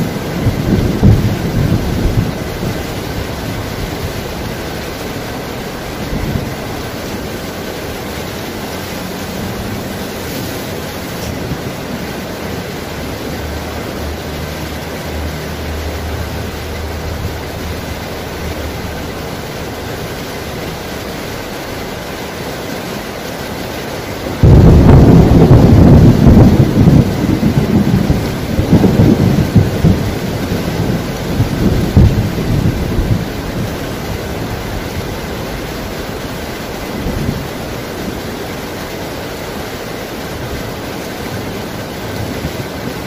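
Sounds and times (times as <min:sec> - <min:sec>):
thunder rumbling: 0:00.0 - 0:22.0, 0:24.1 - 0:38.8
heavy rain: 0:00.0 - 0:43.0
mountain stream rushing: 0:00.0 - 0:43.0.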